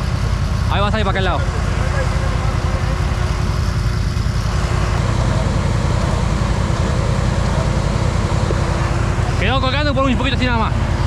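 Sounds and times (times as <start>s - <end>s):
constant rushing noise: 0.0s - 11.0s
engine pulsing low rumble: 0.0s - 11.0s.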